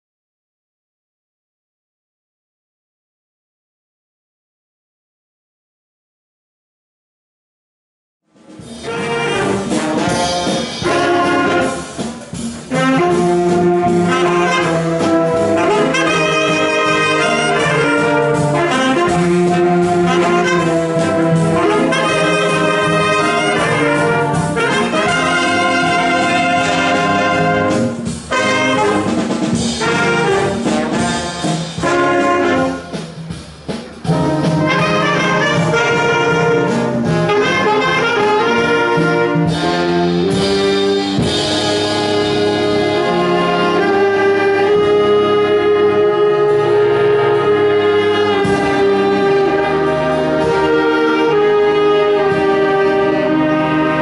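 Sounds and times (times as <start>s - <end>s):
wind band playing chords: 8.4s - 54.0s.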